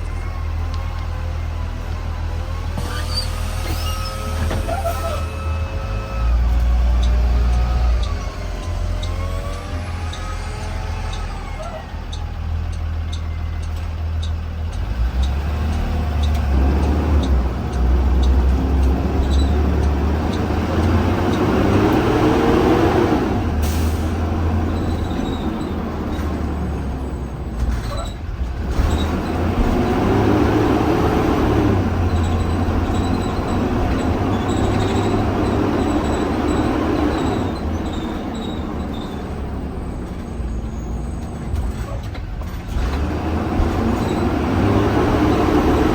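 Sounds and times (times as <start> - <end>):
bus engine rumble: 0.0 - 45.9.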